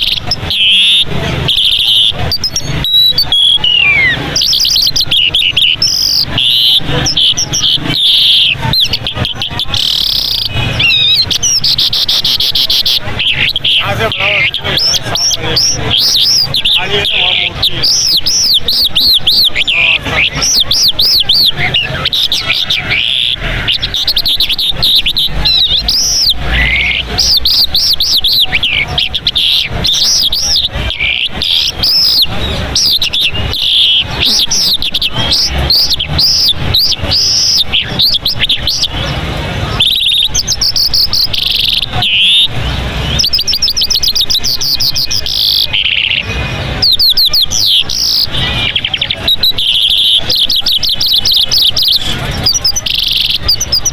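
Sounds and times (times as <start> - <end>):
songbird twittering song: 0.0 - 53.9.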